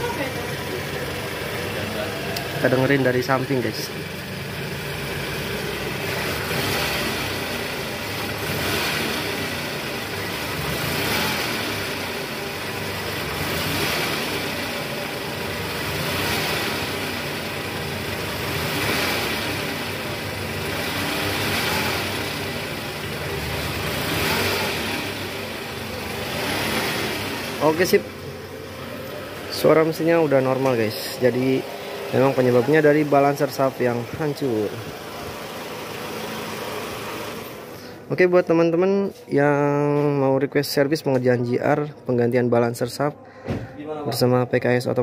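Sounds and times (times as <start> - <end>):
car engine running smoothly: 0.0 - 38.2.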